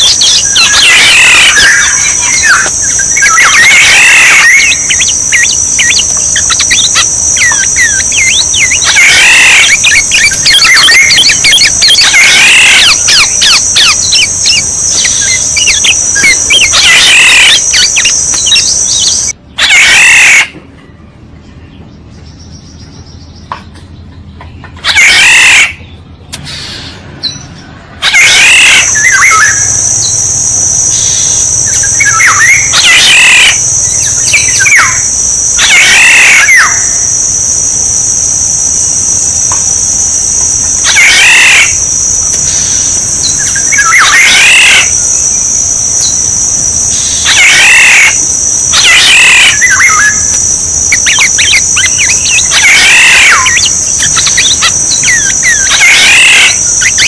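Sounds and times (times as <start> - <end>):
high-pitched insect drone: 0.0 - 20.5, 24.9 - 25.7, 28.0 - 57.0
oriole calling: 0.0 - 20.6, 24.8 - 25.8, 28.0 - 57.0.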